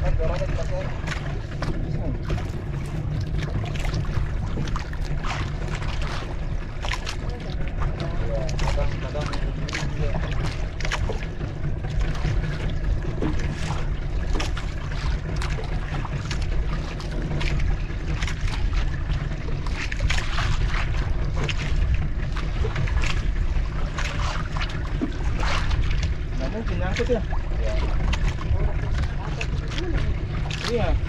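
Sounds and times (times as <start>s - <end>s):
water splashes: 0.0s - 31.0s
wind and water rumble: 0.0s - 31.0s
knocks on boat: 0.2s - 31.0s.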